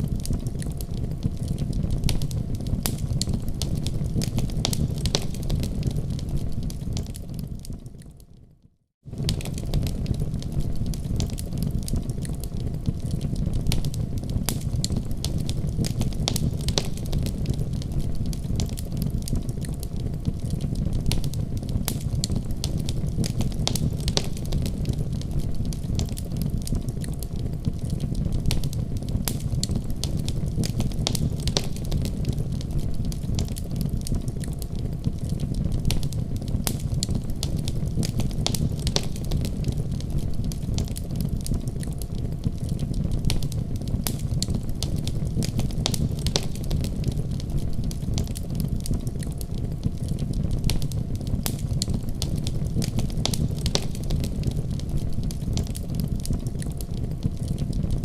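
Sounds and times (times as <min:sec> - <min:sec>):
wood fire crackling: 0:00.0 - 0:08.4, 0:09.0 - 0:58.0.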